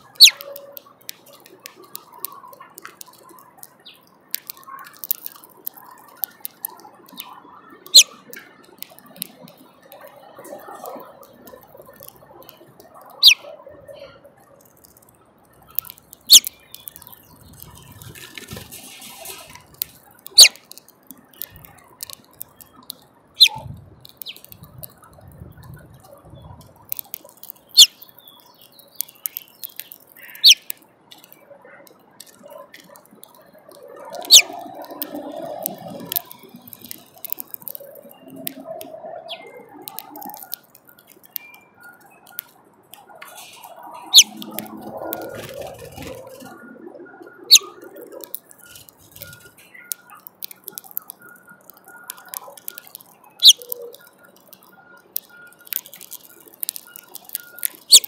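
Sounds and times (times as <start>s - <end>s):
beaks tapping on seed and tray: 0.0s - 13.5s, 14.5s - 46.6s, 47.5s - 58.0s.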